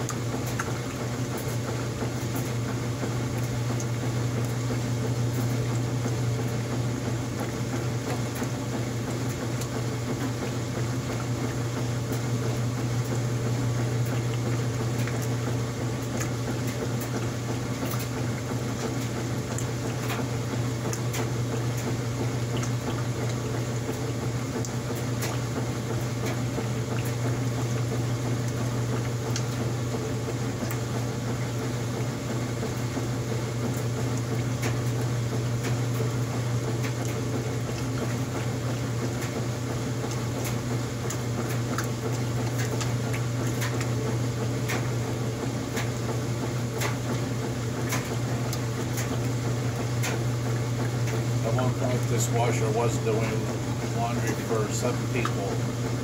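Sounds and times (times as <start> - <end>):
washing machine motor hum: 0.0 - 56.0
water sloshing and splashing: 0.0 - 56.0.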